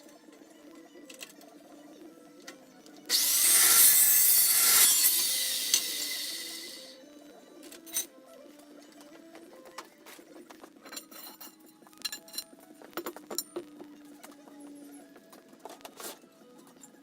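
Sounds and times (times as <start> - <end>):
quiet music with held notes: 0.0 - 17.0.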